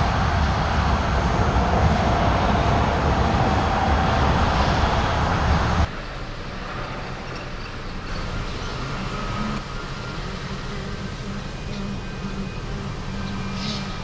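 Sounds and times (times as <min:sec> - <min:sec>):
quiet rail-side rumble: 0:00.0 - 0:14.0
train passing with rail noise: 0:00.0 - 0:14.0.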